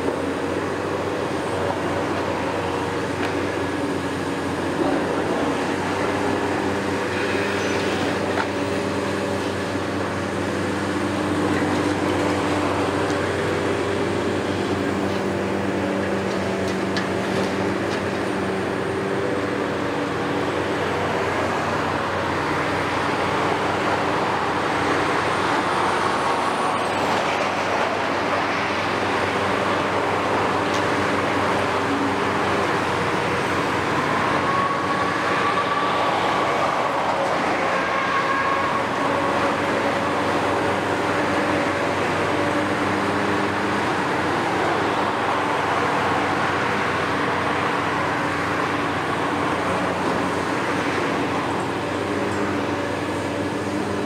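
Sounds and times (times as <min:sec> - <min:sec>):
excavator diesel engine and hydraulics: 0:00.0 - 0:54.0.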